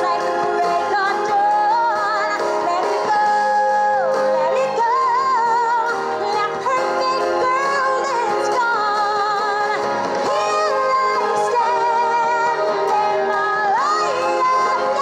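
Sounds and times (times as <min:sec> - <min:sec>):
instrumental backing: 0:00.0 - 0:15.0
woman singing pop song: 0:00.0 - 0:15.0.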